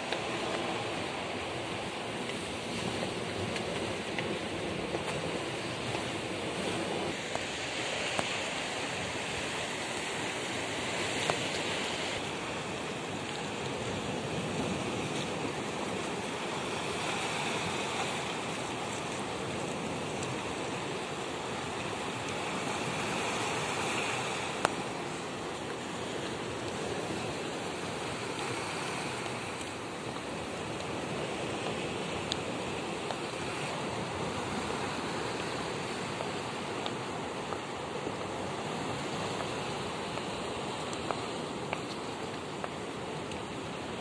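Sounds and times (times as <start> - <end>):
waves washing onto rocky shore: 0.0 - 44.0.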